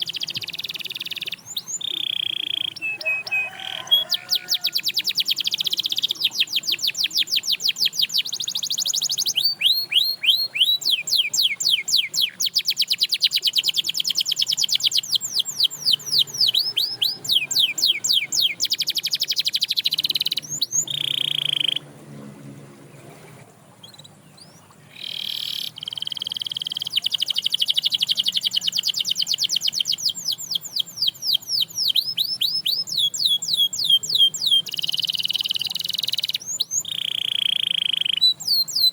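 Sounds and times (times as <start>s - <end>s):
canary singing trills: 0.0s - 21.8s, 23.0s - 38.9s.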